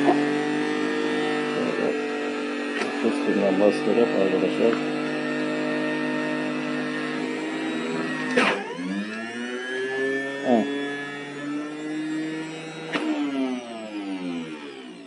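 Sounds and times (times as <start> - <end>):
juicer motor humming: 0.0 - 15.0.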